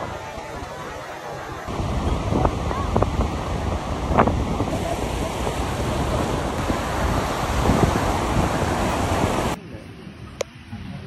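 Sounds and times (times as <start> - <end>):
ocean surf breaking: 0.0 - 9.6
wind buffeting microphone: 0.0 - 11.0.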